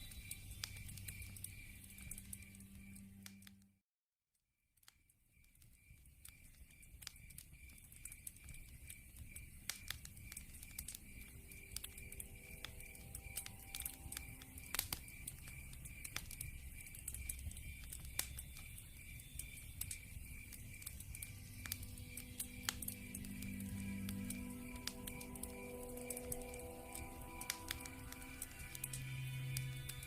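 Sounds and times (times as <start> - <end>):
insect chirping: 0.0 - 3.5, 5.0 - 30.0
wood fire crackling and popping: 0.0 - 3.6, 5.4 - 30.0.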